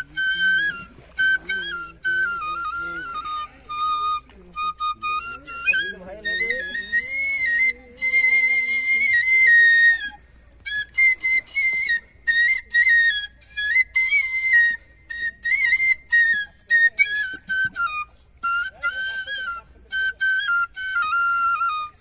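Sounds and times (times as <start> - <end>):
bamboo flute folk melody: 0.0 - 22.0.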